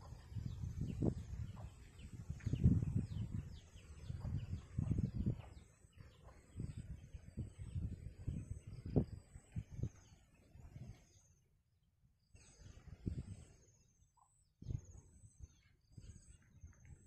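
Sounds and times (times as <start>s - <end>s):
wind rumble on microphone: 0.0s - 11.3s, 12.1s - 13.9s, 14.6s - 17.0s
small birds chirping: 0.0s - 17.0s.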